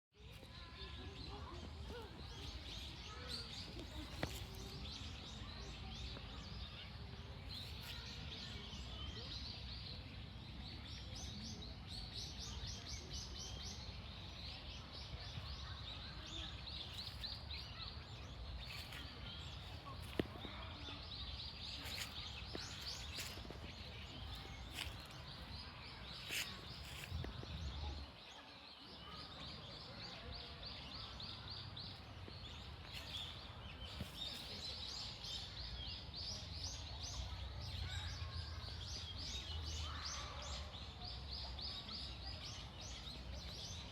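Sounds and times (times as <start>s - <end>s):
songbirds chirping: 0.1s - 43.9s.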